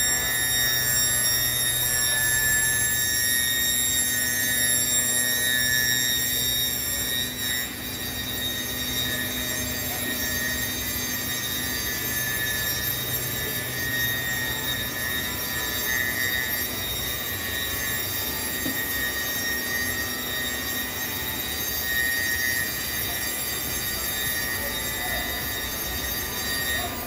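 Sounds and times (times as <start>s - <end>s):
machine high-pitched whine: 0.0s - 27.0s.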